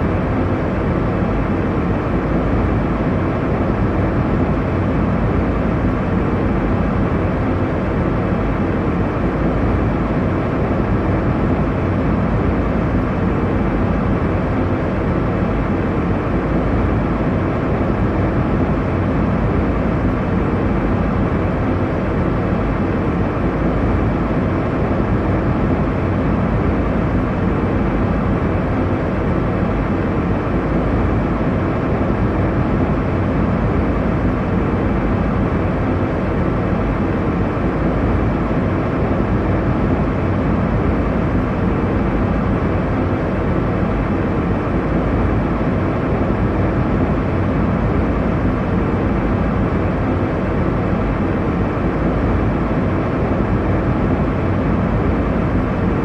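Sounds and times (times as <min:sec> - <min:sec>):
airliner cabin engine rumble: 0:00.0 - 0:56.0
faint hum tones: 0:00.0 - 0:56.0.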